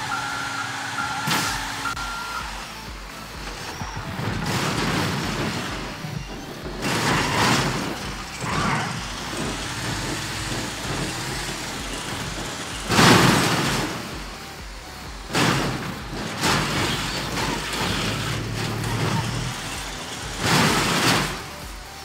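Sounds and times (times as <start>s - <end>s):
engine running low: 0.0s - 22.0s.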